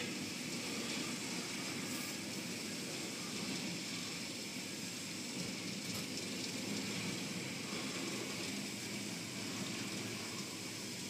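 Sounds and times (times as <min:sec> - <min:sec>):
water spraying: 0:00.0 - 0:11.0.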